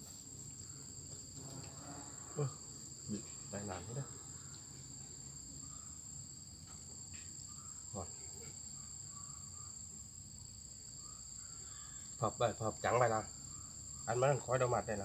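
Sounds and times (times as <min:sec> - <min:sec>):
insects shrilling: 0:00.0 - 0:15.0.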